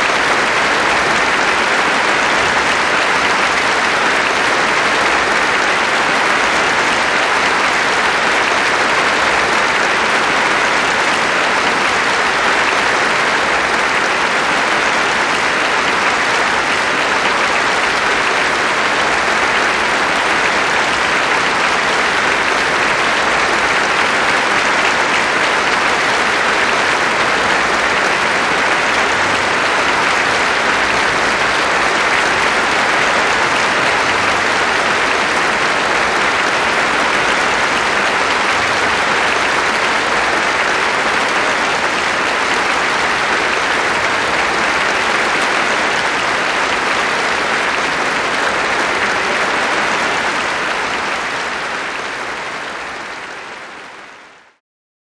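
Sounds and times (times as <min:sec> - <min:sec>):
large audience applauding: 0:00.0 - 0:54.6.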